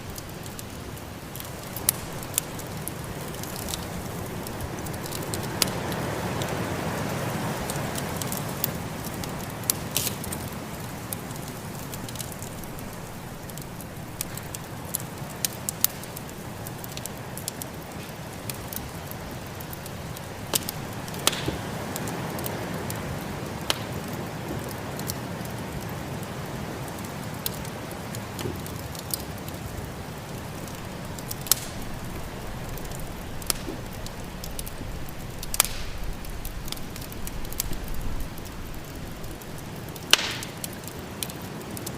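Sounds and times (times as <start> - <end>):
sharp pops of fire: 0.0 - 26.0, 26.9 - 29.6, 30.2 - 41.9
wood fire crackling: 0.0 - 41.9.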